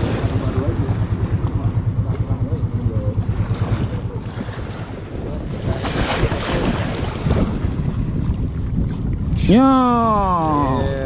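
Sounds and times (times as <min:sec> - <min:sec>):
waves washing and splashing: 0:00.0 - 0:11.0
wind buffeting microphone: 0:00.0 - 0:11.0.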